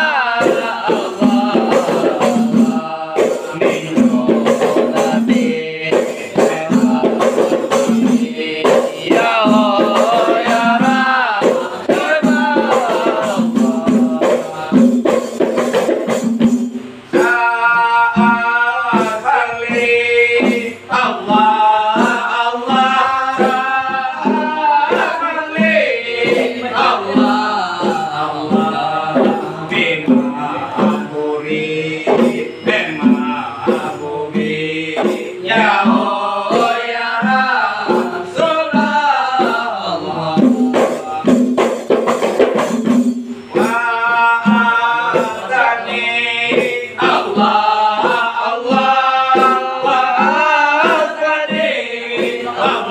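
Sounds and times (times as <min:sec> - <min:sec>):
frame drums beating: 0:00.0 - 0:52.9
men singing devotional verses: 0:00.0 - 0:52.9.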